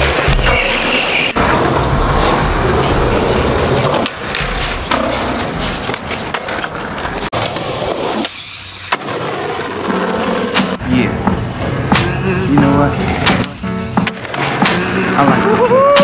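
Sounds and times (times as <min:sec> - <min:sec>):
skateboard clacking on ground: 0:00.0 - 0:16.0
skateboard wheels rolling on concrete: 0:00.0 - 0:16.0.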